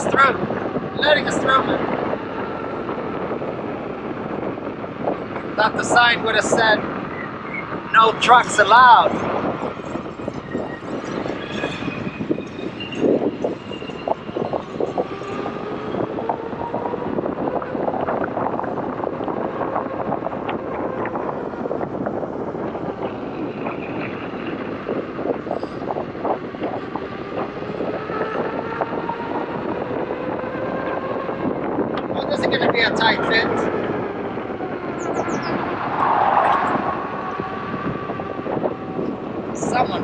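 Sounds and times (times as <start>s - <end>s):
wind noise on microphone: 0.0s - 40.0s.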